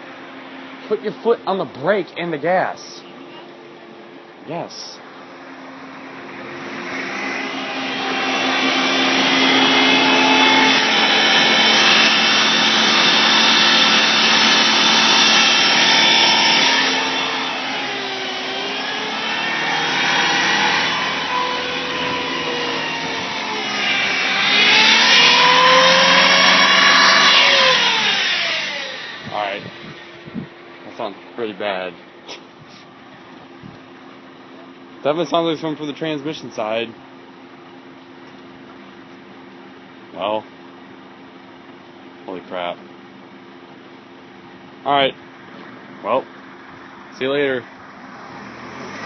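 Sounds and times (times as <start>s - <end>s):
engine whine rising in pitch: 0.0s - 37.0s, 42.3s - 49.0s.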